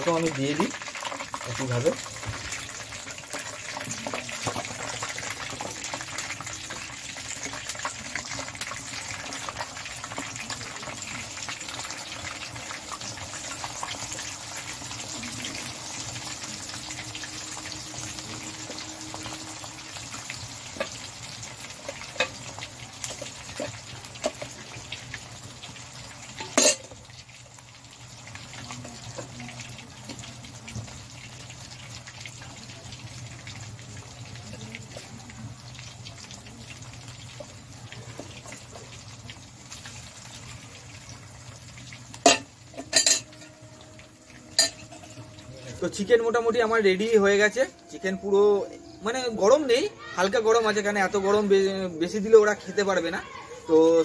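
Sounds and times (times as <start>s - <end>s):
chicken deep-frying in oil: 0.0s - 54.0s.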